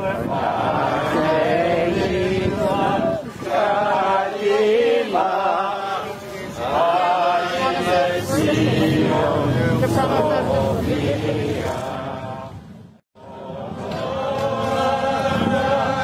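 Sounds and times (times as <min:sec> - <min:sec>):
crowd chanting in unison: 0:00.0 - 0:16.0.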